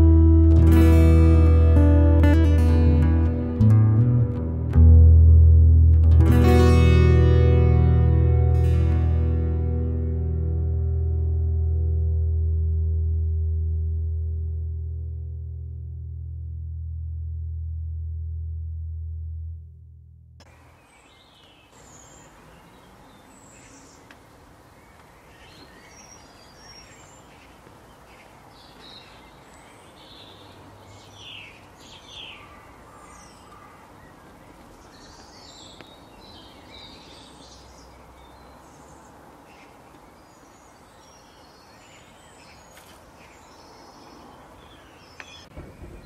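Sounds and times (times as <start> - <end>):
outdoor background hiss: 0.0 - 15.3, 20.4 - 46.0.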